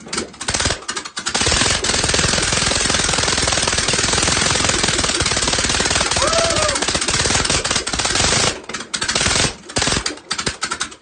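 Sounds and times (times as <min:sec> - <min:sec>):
rally car engine running: 0:00.0 - 0:11.0.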